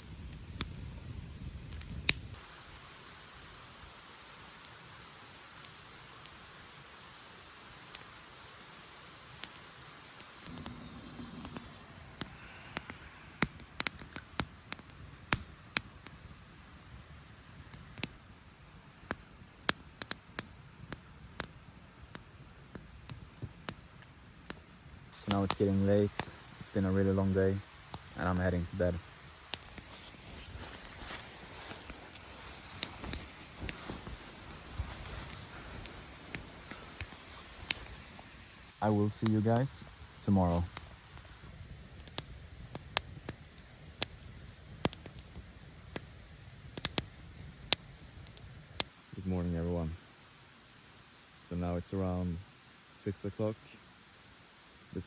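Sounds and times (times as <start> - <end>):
campfire crackling: 0.0 - 55.0
faint steady hiss: 0.0 - 55.0.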